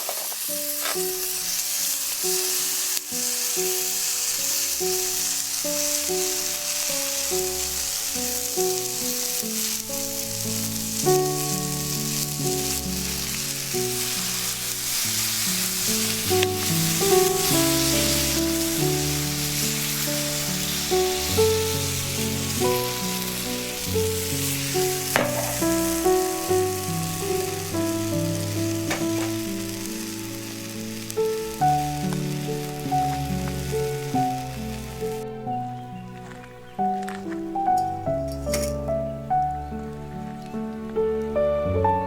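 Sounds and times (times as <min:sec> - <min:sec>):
food sizzling in a pan: 0:00.0 - 0:35.4
background music melody: 0:00.3 - 0:42.0.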